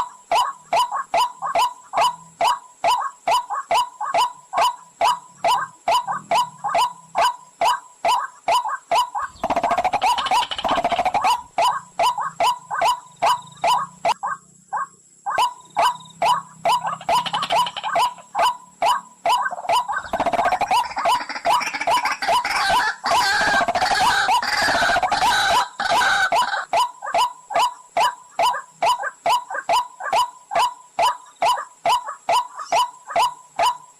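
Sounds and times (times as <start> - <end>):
harsh bird chattering: 0.0 - 33.9
recorded water bird call: 0.0 - 33.9.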